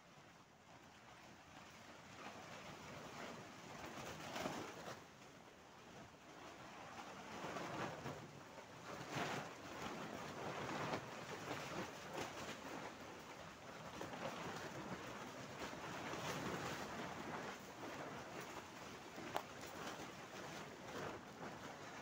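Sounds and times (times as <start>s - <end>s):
plastic sheets rustling in wind: 0.0s - 22.0s.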